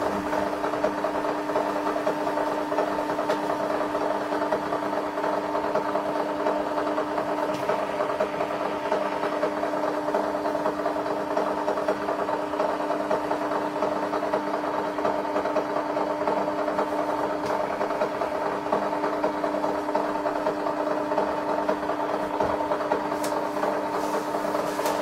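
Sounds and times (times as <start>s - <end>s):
receipt printer buzzing: 0.0s - 25.0s.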